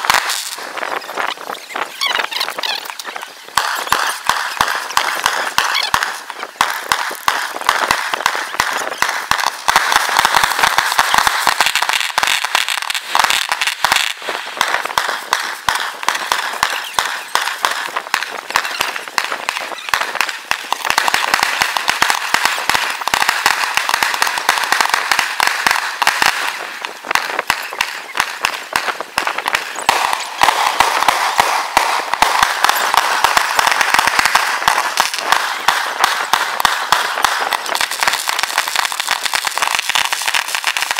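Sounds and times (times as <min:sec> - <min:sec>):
fireworks crackling and popping: 0:00.0 - 0:40.9.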